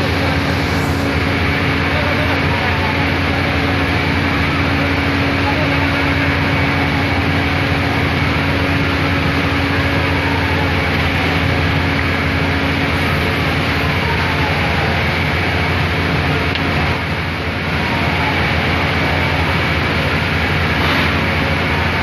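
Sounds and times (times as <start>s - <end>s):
crowd murmuring: 0.0s - 22.0s
fire engine pumps humming: 0.0s - 22.0s.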